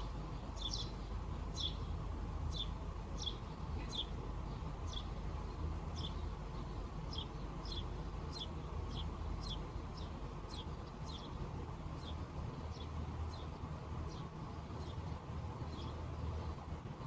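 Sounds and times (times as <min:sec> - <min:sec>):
bird chirping: 0:00.0 - 0:16.5
steady low rumble: 0:00.0 - 0:17.0.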